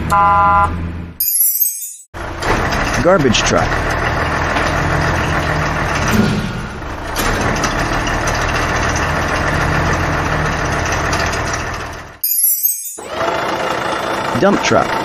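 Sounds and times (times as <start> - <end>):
garbage truck idling: 2.2 - 12.2, 13.0 - 15.0.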